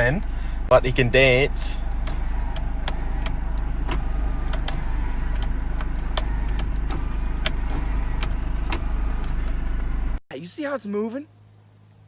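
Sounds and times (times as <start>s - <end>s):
car interior low rumble: 0.0s - 10.7s.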